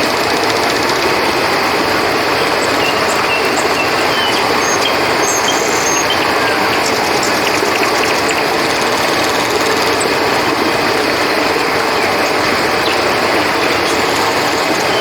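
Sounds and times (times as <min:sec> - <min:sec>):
crickets chirping: 0:00.0 - 0:15.0
river water rushing: 0:00.0 - 0:15.0.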